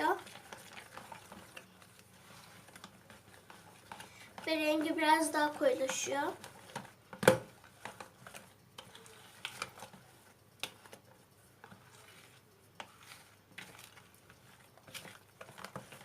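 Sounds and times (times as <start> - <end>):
utensil scraping a bowl: 0.1 - 6.9, 7.5 - 16.0.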